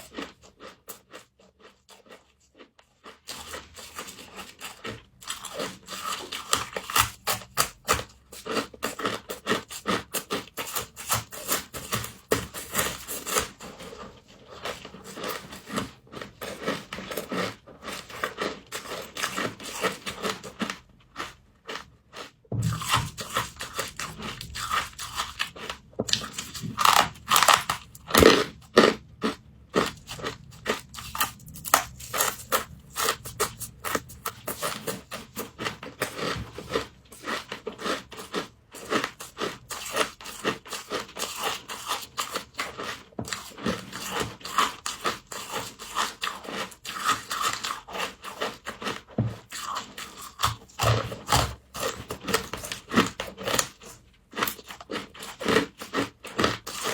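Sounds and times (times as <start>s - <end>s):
person crunching frost: 0.0s - 56.9s.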